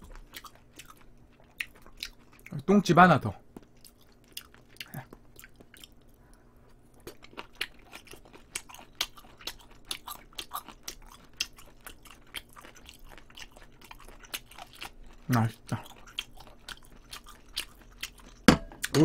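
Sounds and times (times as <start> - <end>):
crunchy wet chewing: 0.0 - 2.6, 3.5 - 19.0.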